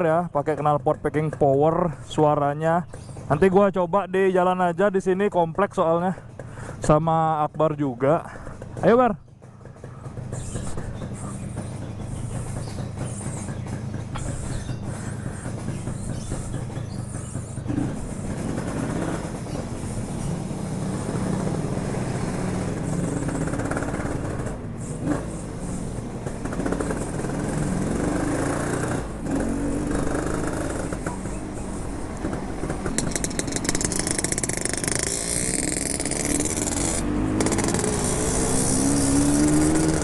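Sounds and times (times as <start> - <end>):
another motorcycle engine: 0.0 - 40.0
two-stroke motorcycle engine: 0.0 - 40.0.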